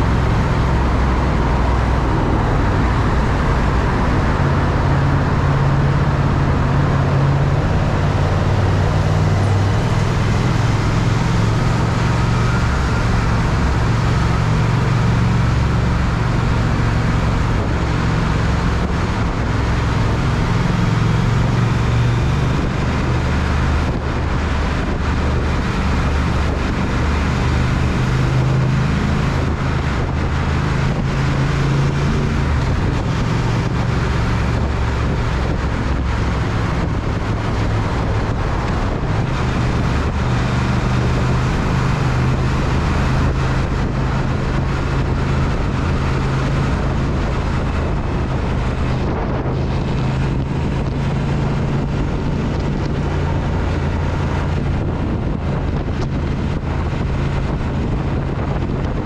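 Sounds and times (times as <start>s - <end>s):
motorcycle engine cruising: 0.0s - 59.0s
wind on microphone: 0.0s - 59.0s.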